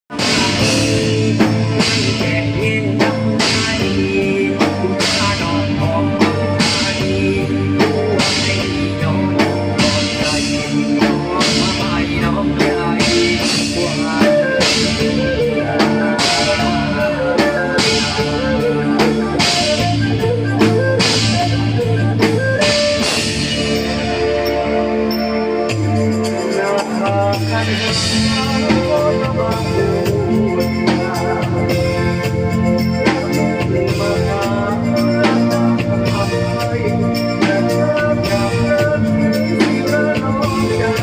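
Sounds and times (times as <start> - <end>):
drum kit beat: 0.1 - 41.0
guitar: 0.1 - 41.0
wavering melodic lead: 0.1 - 41.0.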